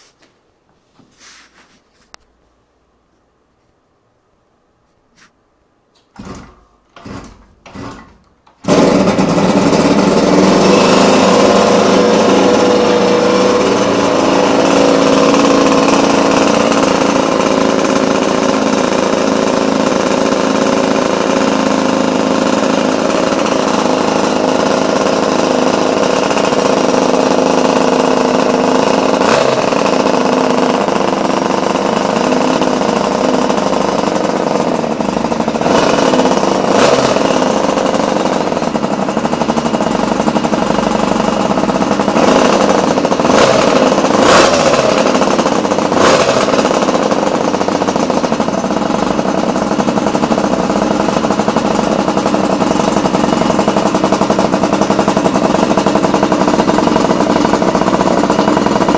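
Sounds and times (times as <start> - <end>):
motorcycle kick-start: 5.9 - 58.9
motorcycle engine running: 6.0 - 58.9.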